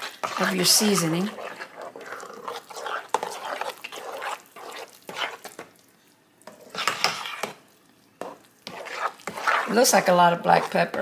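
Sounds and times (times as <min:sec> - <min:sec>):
spoon scraping against pan: 0:00.0 - 0:05.8, 0:06.4 - 0:11.0
spoon stirring thick mixture: 0:00.0 - 0:11.0.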